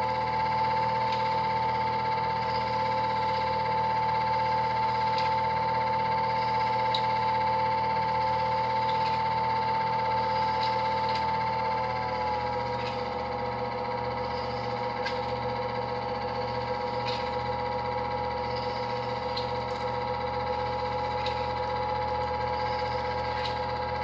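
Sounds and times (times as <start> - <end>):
film projector whine: 0.0 - 24.0.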